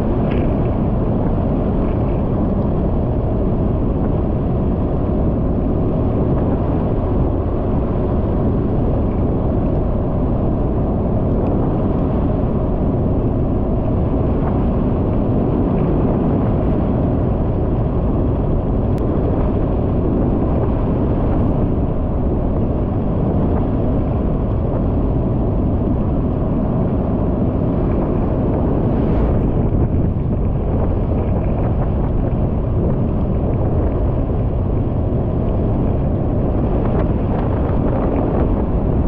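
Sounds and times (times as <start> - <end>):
vehicle engine and tyre noise: 0.0 - 39.0
wind rumble on microphone: 0.0 - 39.0.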